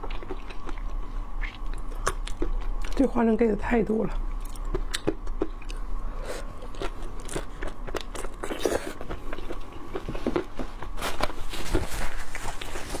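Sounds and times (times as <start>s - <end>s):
crisp chewing crunches: 0.0s - 3.1s, 4.3s - 13.0s.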